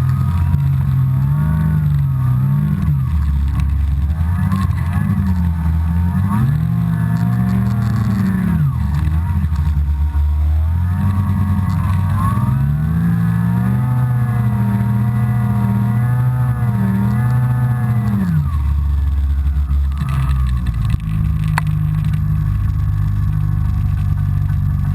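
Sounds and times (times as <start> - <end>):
snowmobile engine revving: 0.0 - 24.9.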